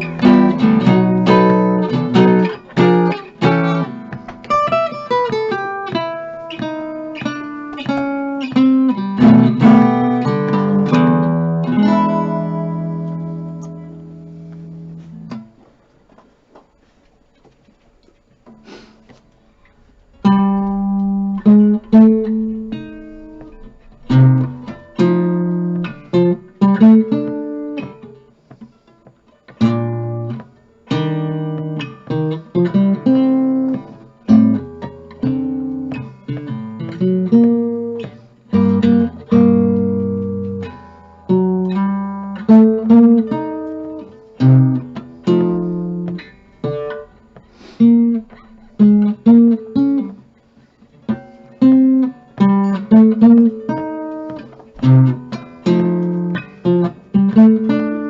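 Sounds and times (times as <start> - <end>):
acoustic guitar chords ringing: 0.0 - 15.6, 19.0 - 28.5, 29.6 - 58.0.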